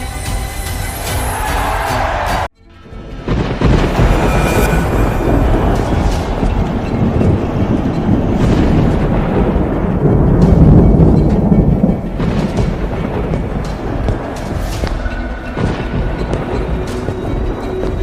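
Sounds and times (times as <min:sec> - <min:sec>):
music: 0:00.0 - 0:18.0
deep thunder-like rumbling: 0:03.2 - 0:18.0.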